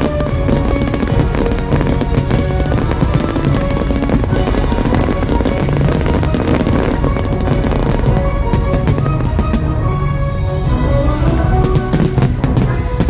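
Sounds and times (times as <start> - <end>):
fireworks bangs and crackles: 0.0 - 13.0
loud show music: 0.0 - 13.0.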